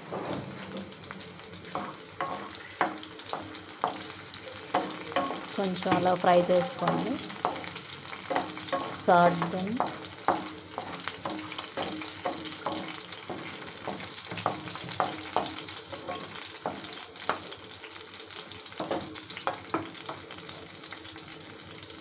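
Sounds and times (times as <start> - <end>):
food sizzling in hot oil: 0.0 - 22.0
spatula scraping and tapping pan: 0.1 - 20.5.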